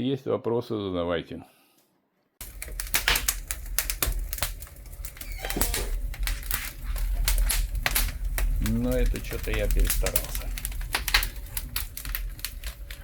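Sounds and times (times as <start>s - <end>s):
wood fire crackling: 2.4s - 13.0s.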